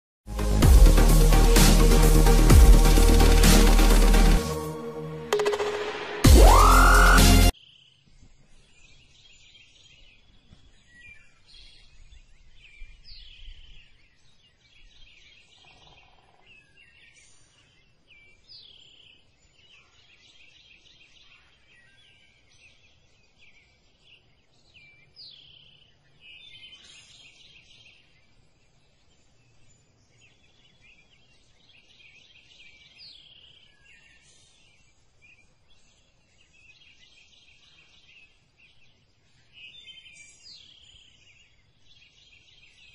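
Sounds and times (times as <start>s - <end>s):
wild birds singing and calling: 6.4s - 42.9s.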